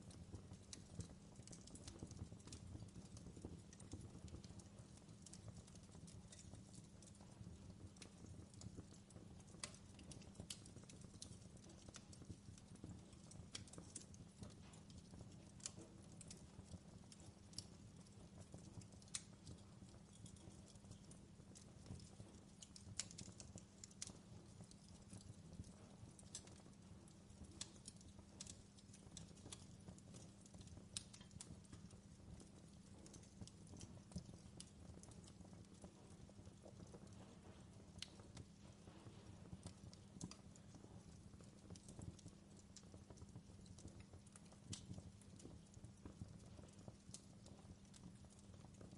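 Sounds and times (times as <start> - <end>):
fire crackling: 0.0 - 48.9.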